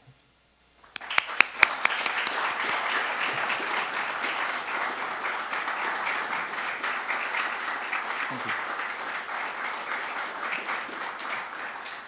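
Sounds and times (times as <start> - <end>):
audience applauding: 0.8 - 12.0
loud claps near microphone: 0.8 - 12.0.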